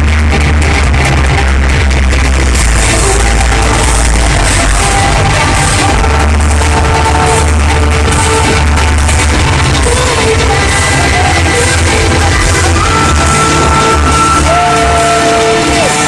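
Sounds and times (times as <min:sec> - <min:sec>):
crowd yelling: 0:00.0 - 0:16.0
trance music over sound system: 0:00.0 - 0:16.0.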